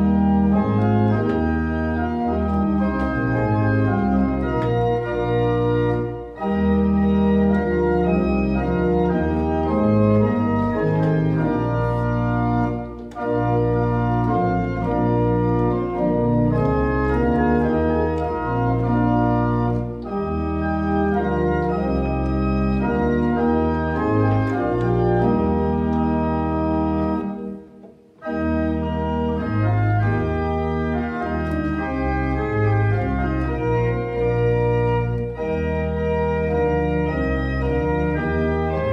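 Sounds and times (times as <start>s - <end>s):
pipe organ playing chords: 0.0s - 38.9s.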